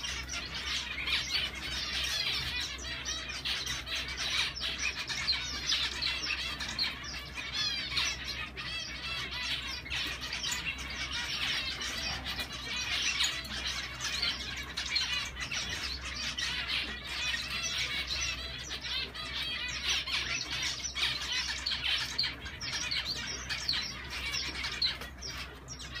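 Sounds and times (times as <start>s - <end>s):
finches chirping: 0.0s - 26.0s.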